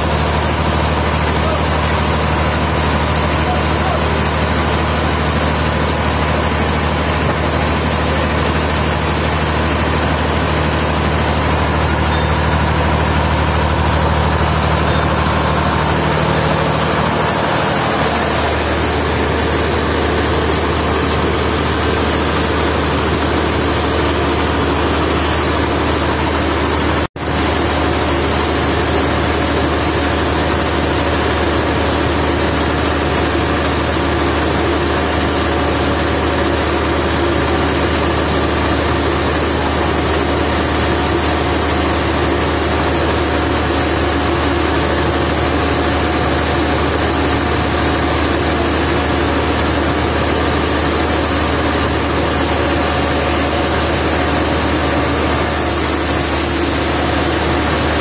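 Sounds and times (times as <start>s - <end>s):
sawmill machinery engine droning: 0.0s - 58.0s.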